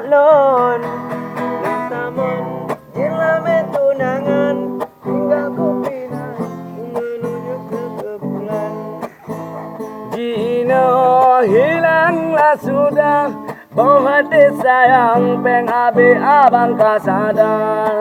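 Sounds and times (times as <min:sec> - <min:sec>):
acoustic guitar strumming chords: 0:00.0 - 0:18.0
man singing: 0:00.0 - 0:18.0.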